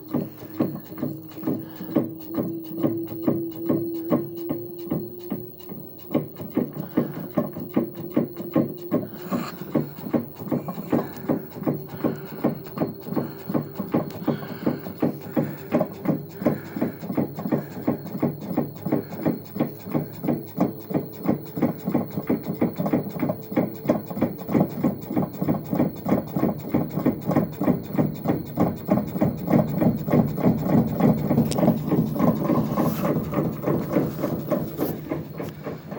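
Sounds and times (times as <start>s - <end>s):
fast regular knocking: 0.0s - 35.9s
washing machine running: 0.0s - 35.9s.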